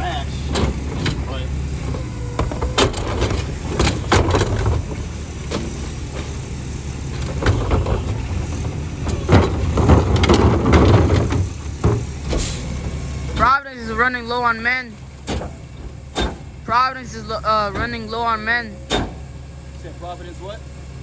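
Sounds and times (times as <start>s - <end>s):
metal and bins clattering: 0.0s - 19.4s
diesel engine rumbling: 0.0s - 21.0s.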